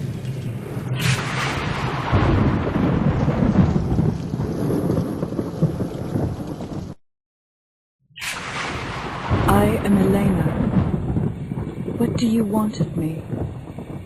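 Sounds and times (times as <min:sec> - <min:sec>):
rain: 0:00.0 - 0:07.0, 0:08.2 - 0:14.0
rolling thunder: 0:00.0 - 0:07.0, 0:08.2 - 0:14.0.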